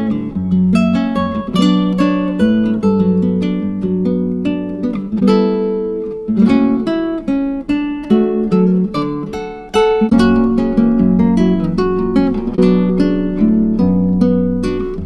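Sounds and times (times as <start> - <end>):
acoustic guitar plucked and strummed: 0.0 - 15.0.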